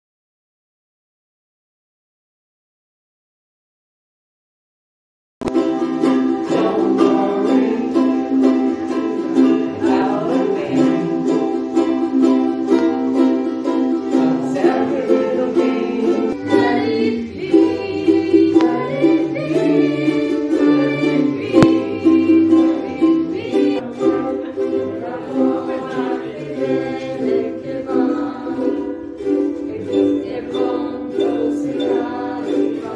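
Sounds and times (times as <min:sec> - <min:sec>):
ukuleles strummed together: 0:05.4 - 0:32.9.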